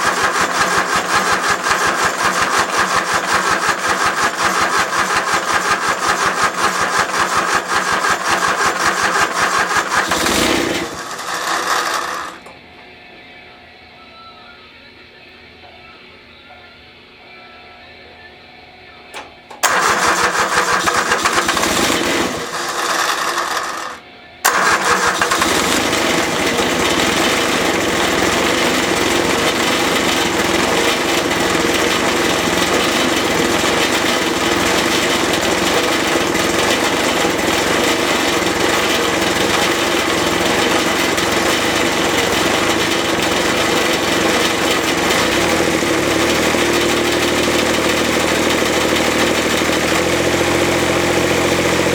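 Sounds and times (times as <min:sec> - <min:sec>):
diesel engine running: 0:00.0 - 0:12.5, 0:19.2 - 0:51.9
starter cranking diesel engine: 0:00.0 - 0:12.5, 0:19.2 - 0:51.9.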